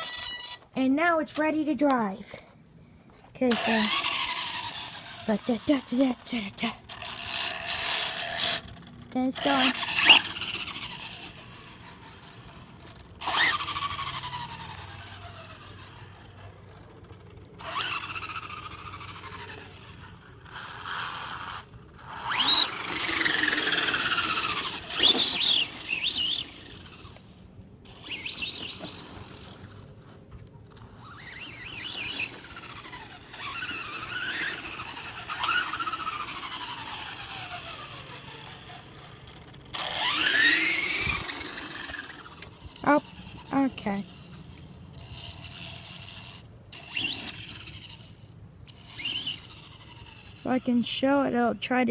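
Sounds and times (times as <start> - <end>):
remote-control truck motor whine: 0.0 - 0.7, 3.5 - 51.1.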